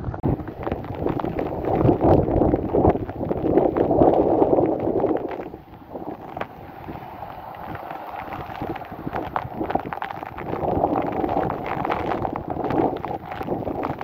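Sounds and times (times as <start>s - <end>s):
heavy rain with sharp drop hits: 0.0s - 14.0s
wind buffeting microphone: 0.0s - 14.0s.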